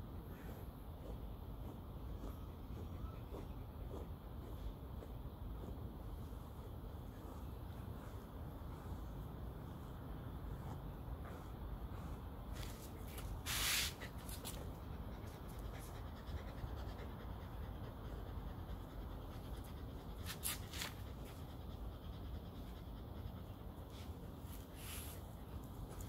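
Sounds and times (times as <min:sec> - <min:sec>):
brush swishing through fur: 0:00.3 - 0:17.6, 0:19.3 - 0:21.5, 0:23.4 - 0:26.0
dog panting: 0:00.5 - 0:26.0.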